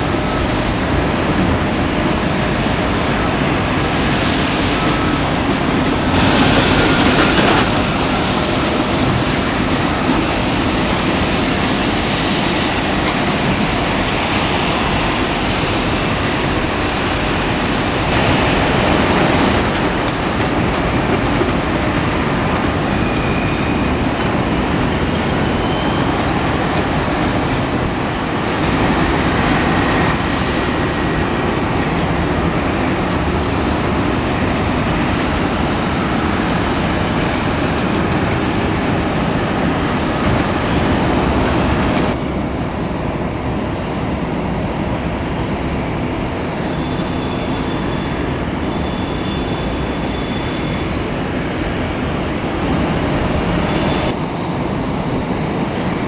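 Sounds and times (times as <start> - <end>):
jet aircraft engines rumbling: 0.0 - 56.0.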